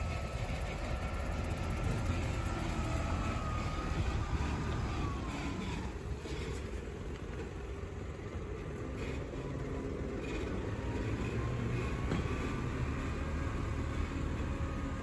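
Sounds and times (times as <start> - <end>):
diesel truck engine rumble: 0.0 - 15.0.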